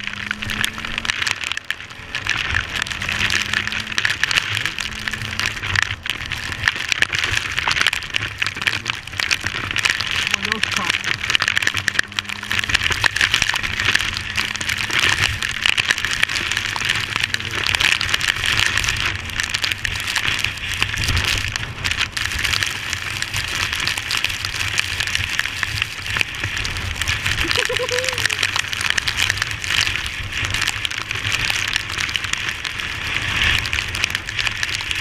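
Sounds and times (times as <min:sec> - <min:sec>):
heavy rain on camera housing: 0:00.0 - 0:35.0
motorcycle engine hum: 0:00.0 - 0:35.0.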